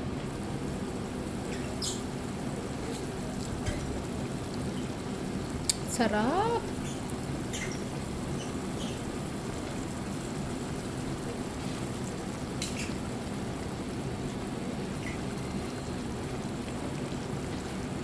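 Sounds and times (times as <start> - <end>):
sauce simmering in a pan: 0.2 - 18.0.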